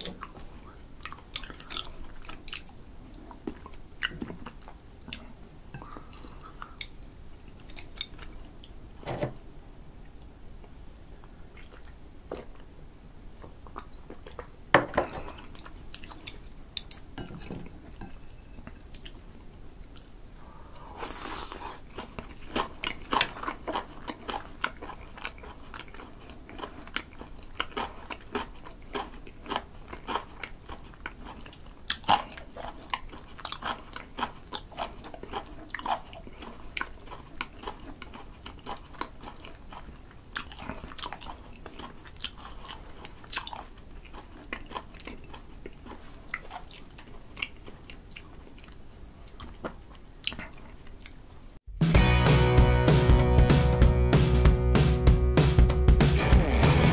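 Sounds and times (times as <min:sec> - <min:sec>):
close chewing with sticky mouth sounds: 0:00.0 - 0:08.8, 0:11.0 - 0:17.2, 0:17.8 - 0:51.6.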